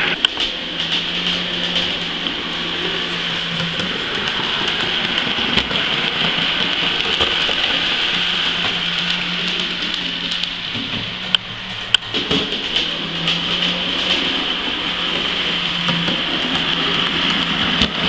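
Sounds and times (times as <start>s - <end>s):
low hum: 0.0s - 18.0s
model locomotive whirring: 0.0s - 18.0s.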